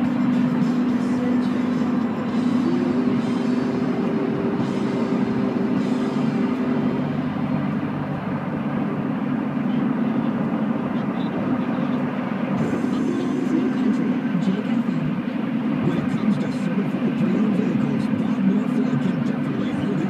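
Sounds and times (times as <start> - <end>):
car radio playing: 0.0 - 20.0
held musical tone: 0.0 - 20.0
road and engine noise in car: 0.0 - 20.0.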